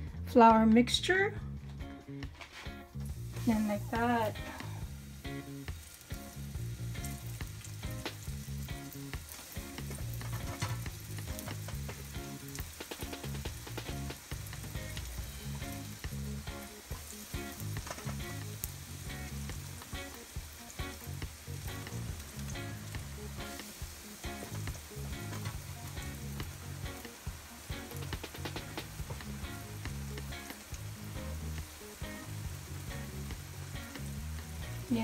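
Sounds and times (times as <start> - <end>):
eggplant sizzling in hot oil: 2.9 - 35.0.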